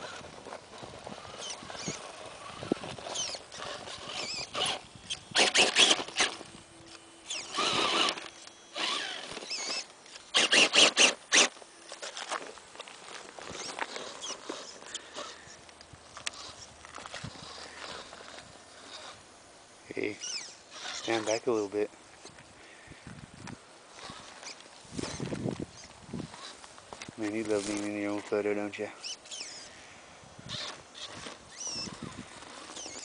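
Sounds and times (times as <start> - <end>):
tyres scraping on rock: 0.0 - 19.3, 20.0 - 22.4, 23.9 - 29.8, 30.4 - 33.0
rc car motor and gears whining: 0.0 - 33.0.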